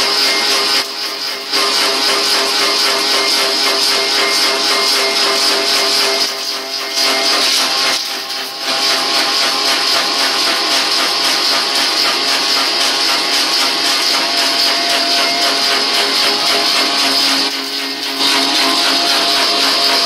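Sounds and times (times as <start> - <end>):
cutter rasping wood: 0.0 - 20.0
lathe machine whine: 0.0 - 20.0.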